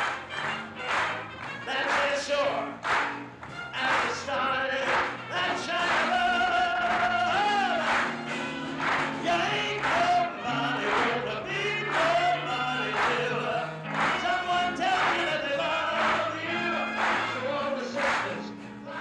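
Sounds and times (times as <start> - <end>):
hand claps: 0.0 - 18.6
live band music: 0.0 - 19.0
crowd singing together: 1.6 - 3.0, 3.8 - 8.2, 8.8 - 19.0.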